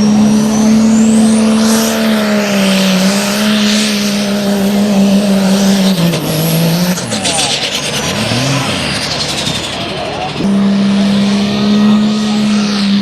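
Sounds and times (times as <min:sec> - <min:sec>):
thin high whine: 0:00.0 - 0:13.0
truck engine at high revs: 0:00.0 - 0:13.0.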